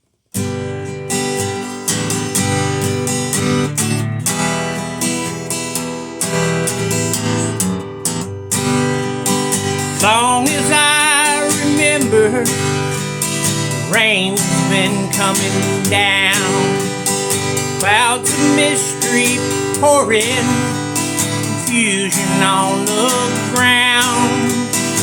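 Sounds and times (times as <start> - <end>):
acoustic guitar strumming: 0.3 - 25.0.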